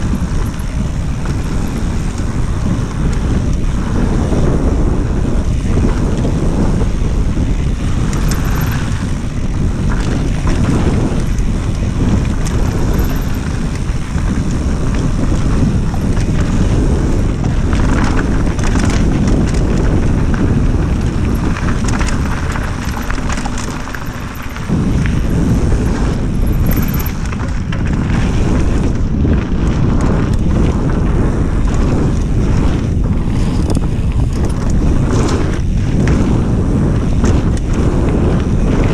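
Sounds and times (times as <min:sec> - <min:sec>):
bike clattering and knocking: 0:00.0 - 0:04.4, 0:07.3 - 0:36.4
tyres rumbling over dirt trail: 0:00.0 - 0:38.9
wind buffeting microphone: 0:00.0 - 0:38.9.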